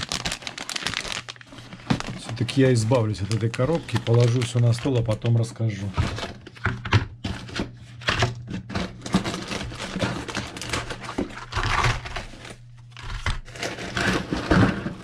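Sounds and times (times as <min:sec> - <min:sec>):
plastic packaging crinkling: 0:00.0 - 0:06.5, 0:08.9 - 0:15.0.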